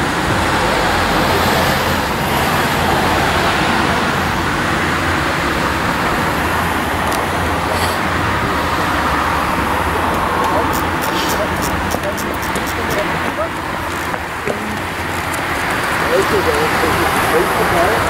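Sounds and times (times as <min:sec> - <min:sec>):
trains running on rails: 0:00.0 - 0:18.0.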